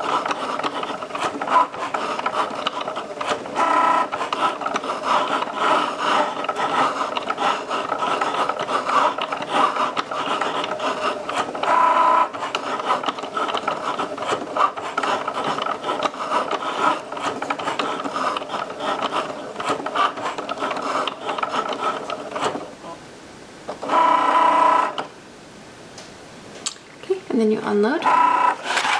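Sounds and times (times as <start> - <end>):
cutting machine motors whirring: 0.0 - 23.0, 23.7 - 25.1, 28.0 - 28.9.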